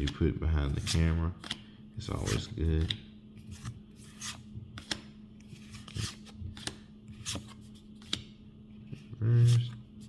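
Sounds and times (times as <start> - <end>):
trading cards sliding: 0.0 - 8.3.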